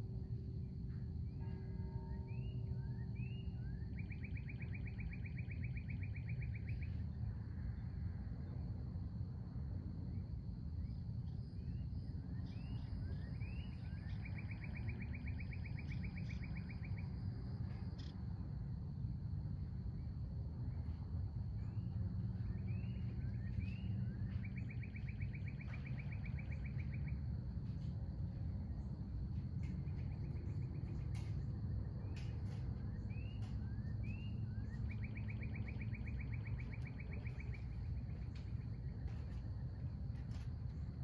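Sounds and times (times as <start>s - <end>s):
low outdoor rumble: 0.0s - 41.0s.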